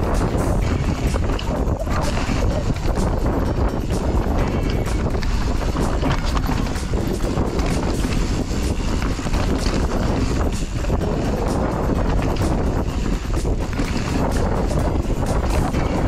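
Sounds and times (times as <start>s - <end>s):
bike rattling and knocking: 0.0s - 16.0s
wind buffeting microphone: 0.0s - 16.0s.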